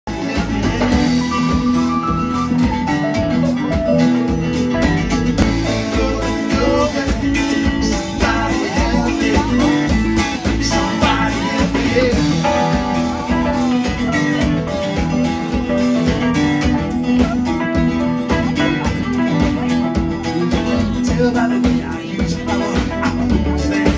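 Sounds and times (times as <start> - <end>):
live band playing: 0.1 - 23.9.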